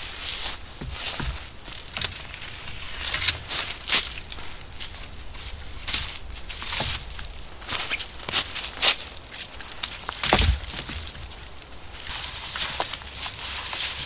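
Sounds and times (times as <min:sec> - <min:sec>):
dry leaves crunching and rustling: 0:00.0 - 0:14.0.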